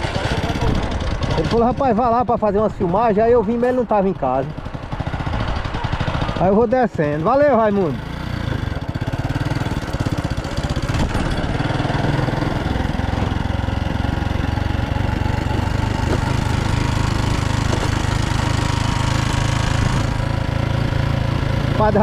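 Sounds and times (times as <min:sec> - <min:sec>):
small vehicle engine running: 0:00.0 - 0:22.0.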